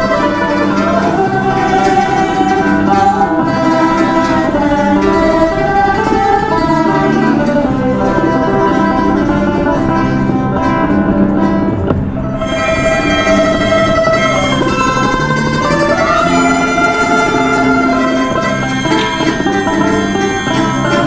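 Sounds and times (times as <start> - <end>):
plucked string music: 0.0 - 21.0.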